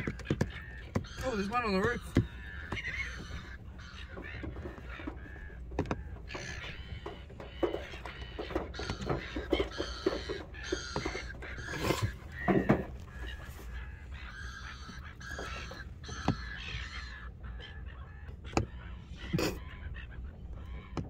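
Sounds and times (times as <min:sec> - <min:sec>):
birds knocking on car bonnet: 0:00.0 - 0:17.1, 0:18.4 - 0:18.8
gulls calling: 0:00.0 - 0:21.0.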